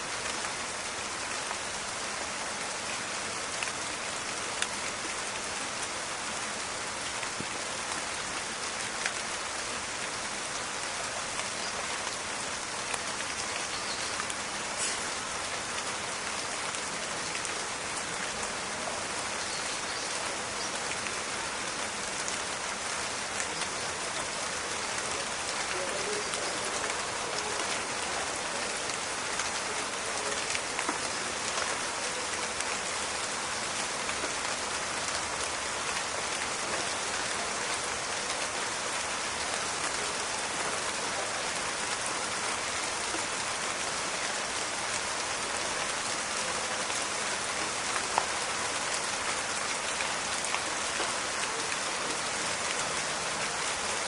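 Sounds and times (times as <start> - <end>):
steady rain on foliage: 0.0 - 54.0.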